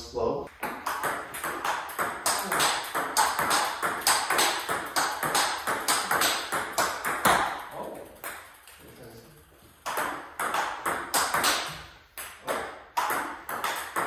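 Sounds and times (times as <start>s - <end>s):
ping pong ball hitting paddles: 0.5s - 8.6s, 9.7s - 14.0s
ping pong ball bouncing on table: 0.6s - 8.5s, 9.8s - 11.8s, 12.4s - 14.0s.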